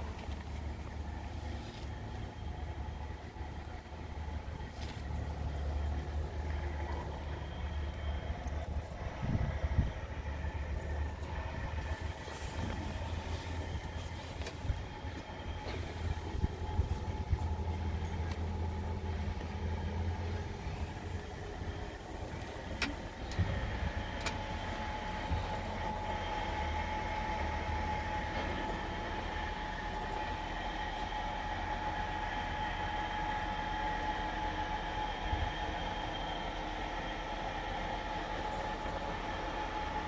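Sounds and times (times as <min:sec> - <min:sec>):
high steady whine: 0:00.0 - 0:40.0
truck diesel engine droning: 0:00.0 - 0:40.0.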